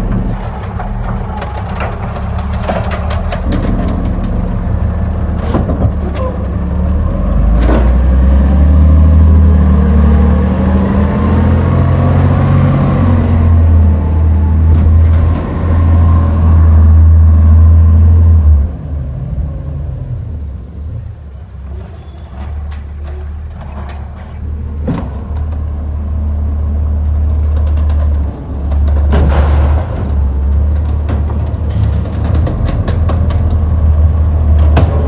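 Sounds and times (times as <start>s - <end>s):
garbage truck diesel engine: 0.0s - 35.0s.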